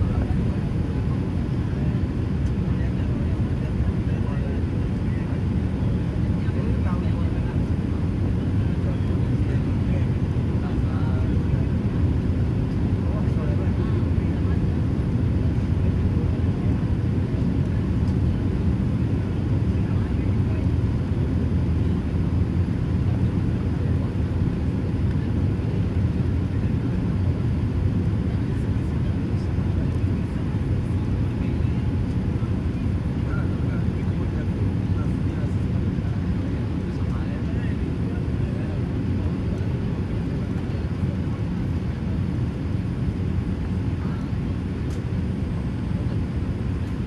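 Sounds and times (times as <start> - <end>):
airplane cabin airflow and engine: 0.0 - 47.0.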